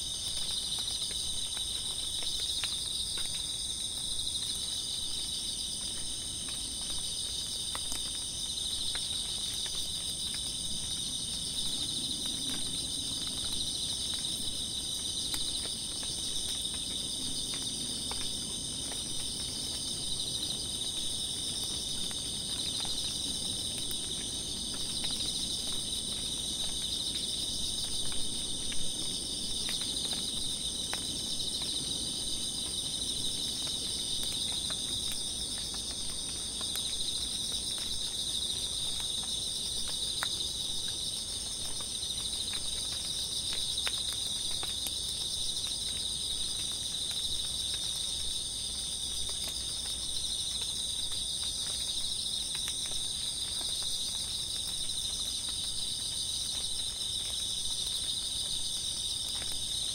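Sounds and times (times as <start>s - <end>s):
insects trilling: 0.0s - 59.9s
light rain ticking: 0.0s - 59.9s.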